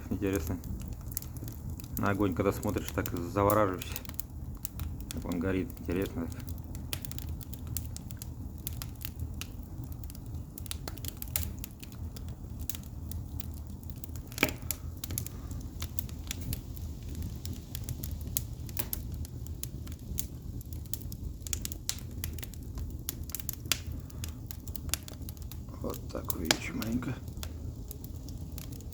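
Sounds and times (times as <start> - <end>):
logs crackling and popping: 0.0 - 28.9
low rumble of flames: 0.0 - 28.9.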